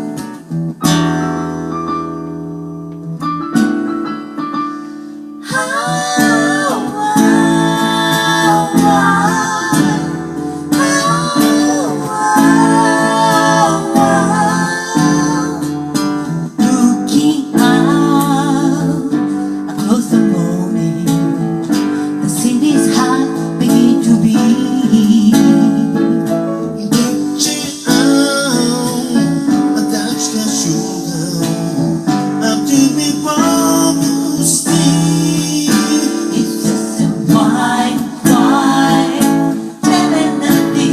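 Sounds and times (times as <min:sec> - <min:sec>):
song with guitar and singing: 0:00.0 - 0:40.9.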